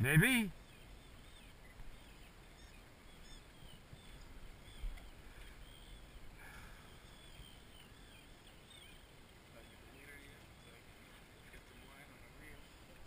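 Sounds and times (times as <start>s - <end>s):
faint wind rumble: 0.0s - 13.0s
water noise around a boat: 0.5s - 13.0s.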